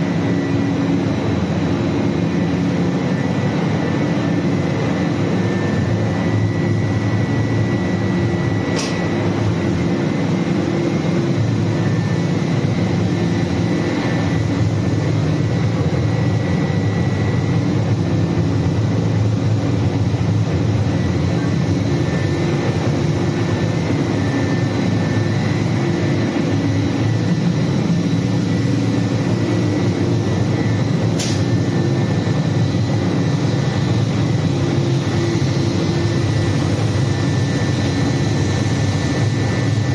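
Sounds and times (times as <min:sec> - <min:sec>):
boiler plant hum and rush: 0:00.0 - 0:39.9
faint high whine: 0:00.0 - 0:39.9.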